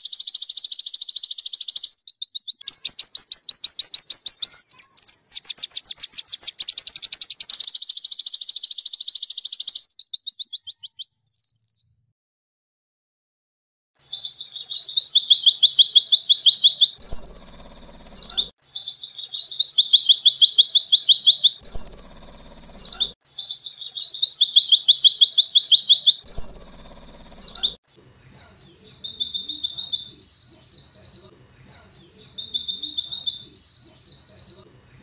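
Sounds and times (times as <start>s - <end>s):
bird singing: 0.0s - 12.0s, 14.0s - 35.0s.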